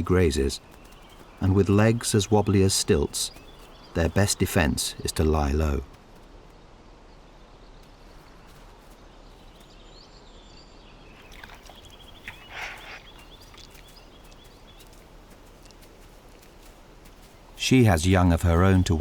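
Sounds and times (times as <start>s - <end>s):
high bird calls: 0.0s - 19.0s
outdoor wildlife ambience: 0.0s - 19.0s
rustle with chirps: 0.0s - 19.0s.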